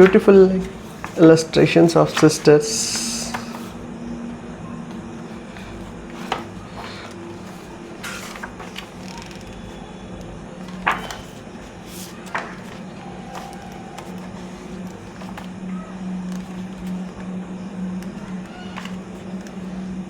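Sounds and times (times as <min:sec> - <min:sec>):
book pages turning: 0:00.0 - 0:03.8, 0:04.9 - 0:20.0.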